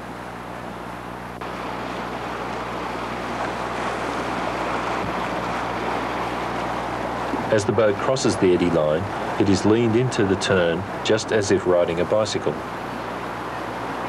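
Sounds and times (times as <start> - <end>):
low steady hum: 0.0 - 14.0
rushing river water: 0.0 - 14.0.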